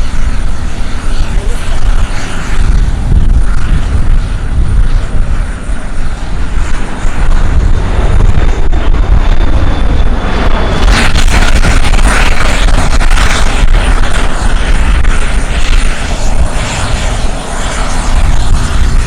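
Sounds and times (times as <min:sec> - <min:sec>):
propeller noise: 0:00.0 - 0:19.0
turboprop engines rumbling: 0:00.0 - 0:19.0.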